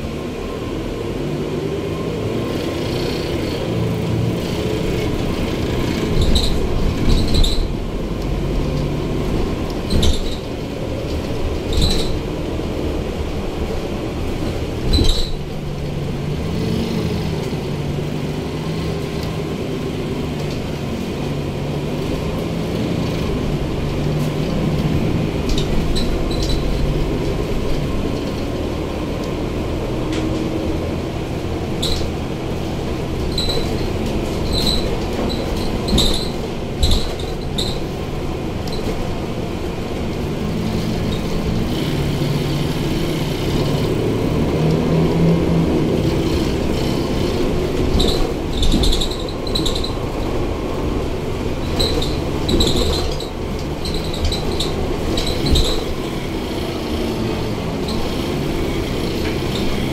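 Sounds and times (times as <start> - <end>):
bus diesel engine droning: 0.0 - 59.9
road and tyre noise: 0.0 - 59.9.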